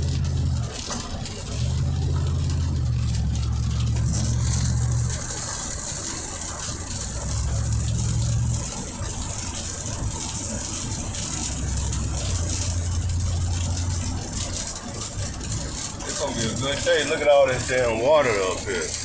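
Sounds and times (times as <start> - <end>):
car engine and road noise: 0.0 - 19.0
hiss of rain and wet road: 0.0 - 19.0.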